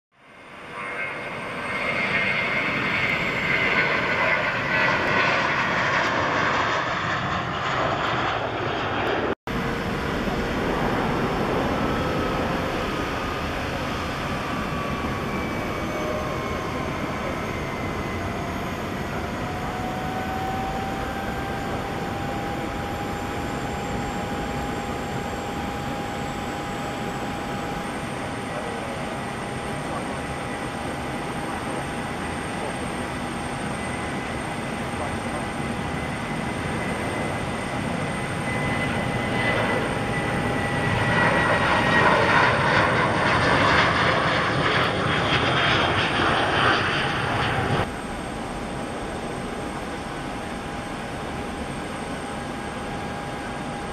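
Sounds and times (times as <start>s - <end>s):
jet engines rumbling and whining: 0.1s - 53.9s.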